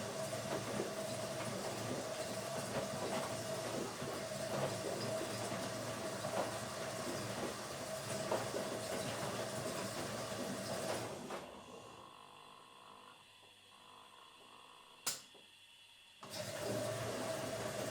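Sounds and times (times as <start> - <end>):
washing machine motor hum: 0.0 - 15.1, 16.2 - 17.9.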